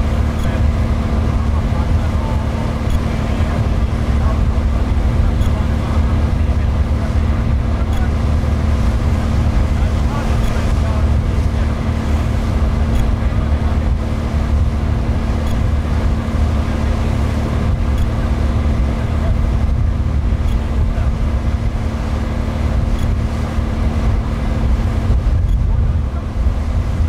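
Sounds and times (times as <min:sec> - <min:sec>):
ferry engine drone: 0:00.0 - 0:27.0
water rushing: 0:00.0 - 0:27.0
wind: 0:00.0 - 0:27.0.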